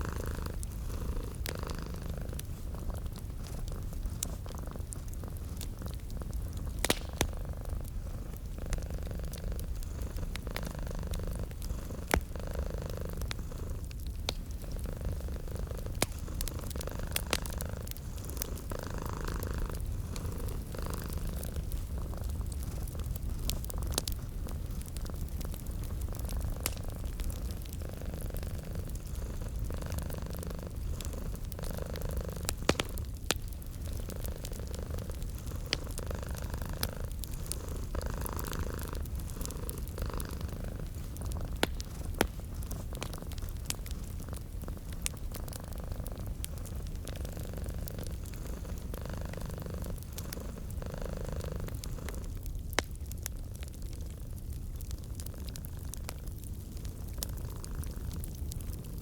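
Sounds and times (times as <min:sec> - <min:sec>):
cat purring: 0:00.0 - 0:52.8, 0:53.8 - 0:59.0
wood fire crackling: 0:00.0 - 0:59.0.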